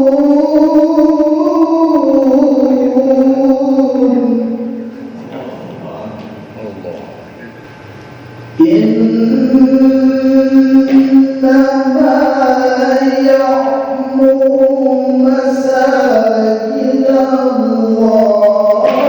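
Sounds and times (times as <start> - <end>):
man chanting melodically: 0.0 - 7.3, 8.6 - 19.0.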